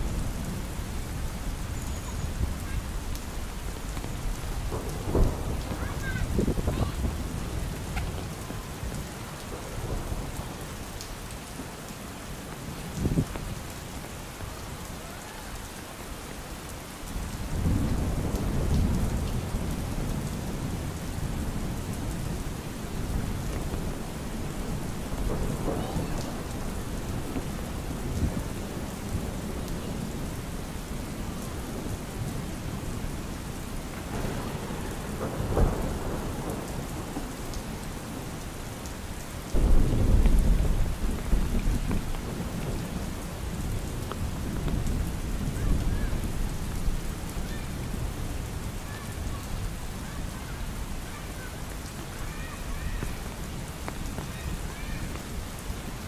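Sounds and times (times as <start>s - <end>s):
thunder rumbling: 0.0s - 11.8s, 17.1s - 56.0s
rain falling on an umbrella: 0.0s - 56.0s.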